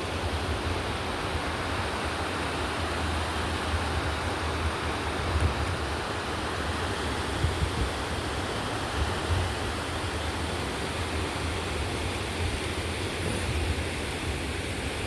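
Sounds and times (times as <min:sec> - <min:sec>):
river rushing: 0:00.0 - 0:15.0
wind rumbling on microphone: 0:00.0 - 0:15.0.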